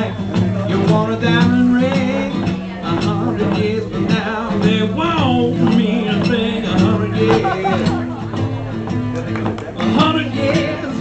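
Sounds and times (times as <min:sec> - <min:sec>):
acoustic guitar: 0:00.0 - 0:11.0.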